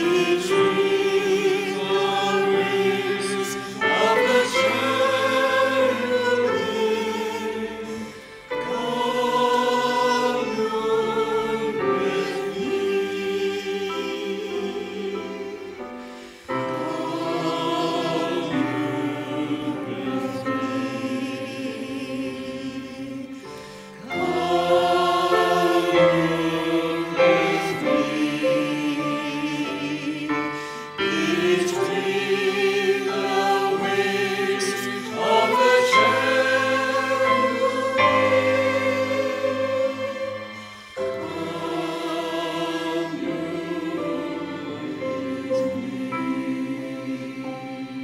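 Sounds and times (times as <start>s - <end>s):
church choir singing a hymn: 0.0s - 48.0s
violin: 0.0s - 48.0s.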